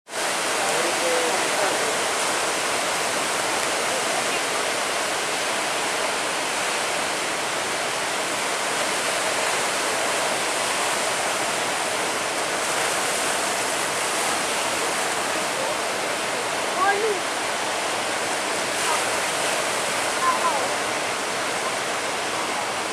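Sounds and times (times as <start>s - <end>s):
waves and churning water: 0.1s - 22.9s.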